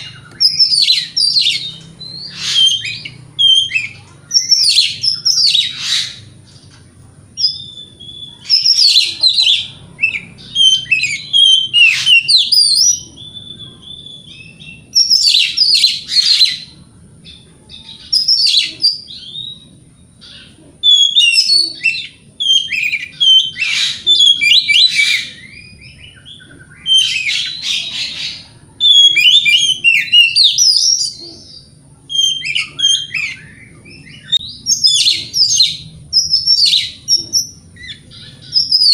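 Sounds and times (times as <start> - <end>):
bird whistles and chirps: 0.0 - 6.3, 7.4 - 16.7, 17.8 - 38.9.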